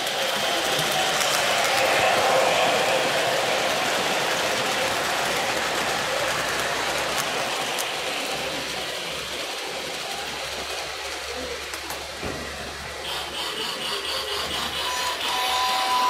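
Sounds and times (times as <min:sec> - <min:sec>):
model train cars rattling on track: 0:00.0 - 0:16.0.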